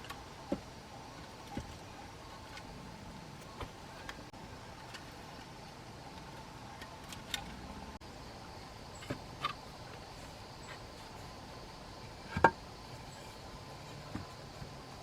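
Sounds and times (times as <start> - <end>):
faint steady background: 0.0 - 15.0.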